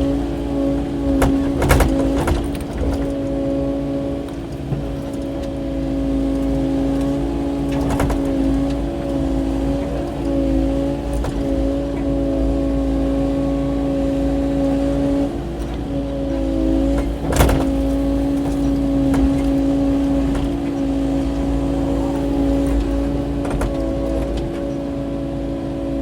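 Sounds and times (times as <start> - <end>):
excavator diesel engine whining: 0.0 - 26.0.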